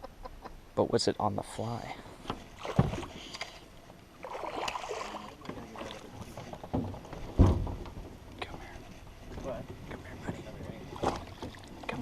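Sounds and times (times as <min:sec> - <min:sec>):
water splashing around a boat: 0:02.0 - 0:12.0.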